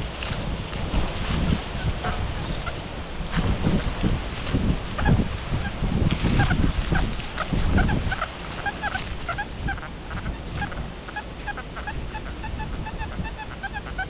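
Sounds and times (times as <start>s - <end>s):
wind rumbling on microphone: 0.0s - 14.0s
geese honking: 1.6s - 4.0s, 4.9s - 14.0s.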